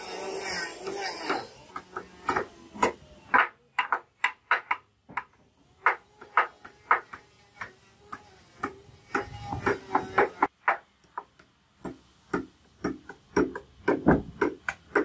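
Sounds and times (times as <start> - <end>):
hammer driving nails into wood: 0.8 - 10.8, 11.8 - 15.0.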